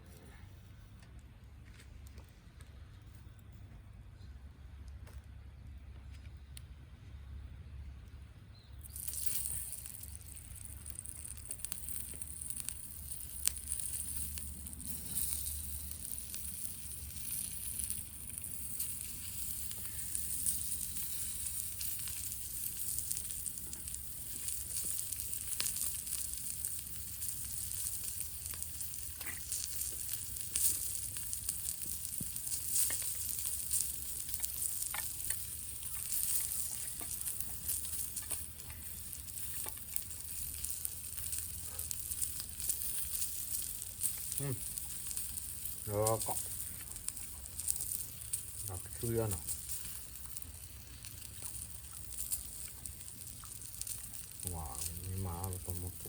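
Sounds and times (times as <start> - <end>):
wood fire crackling and popping: 1.0 - 3.5, 8.0 - 56.0
meat sizzling on a grill: 8.8 - 56.0.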